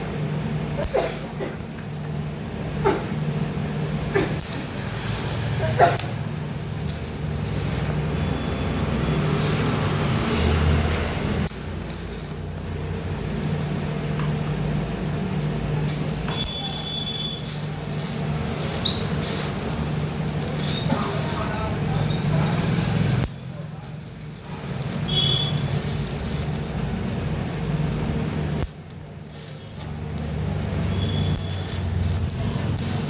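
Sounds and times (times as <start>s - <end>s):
welding arc buzz with hiss: 0.1s - 33.0s.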